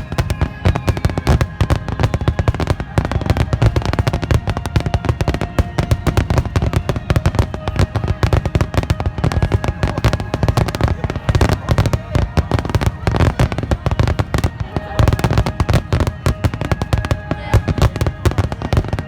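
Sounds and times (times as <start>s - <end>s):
rapid firework bursts and booms: 0.0s - 19.0s.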